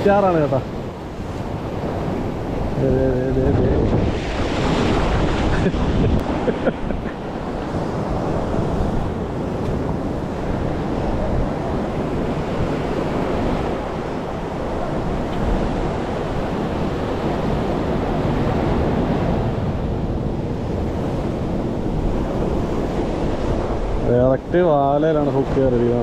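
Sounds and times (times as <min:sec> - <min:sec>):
sea surf washing on shore: 0:00.0 - 0:26.0
wind buffeting the microphone: 0:00.0 - 0:26.0.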